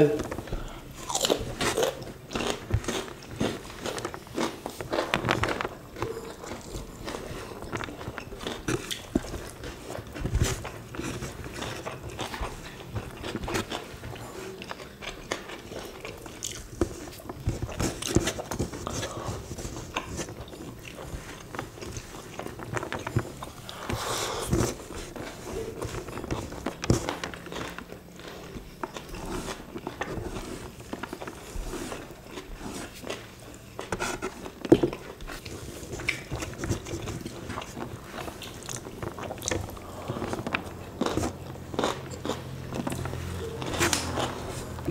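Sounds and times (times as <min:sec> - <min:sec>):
people chewing food: 0:00.0 - 0:44.9.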